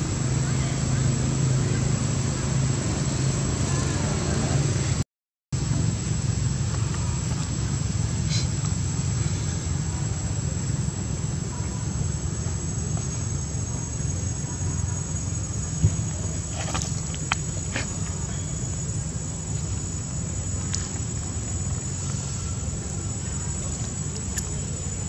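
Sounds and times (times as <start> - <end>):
high insect drone: 0.0 - 5.0, 5.6 - 25.0
low steady rumble: 0.0 - 5.0, 5.6 - 25.0.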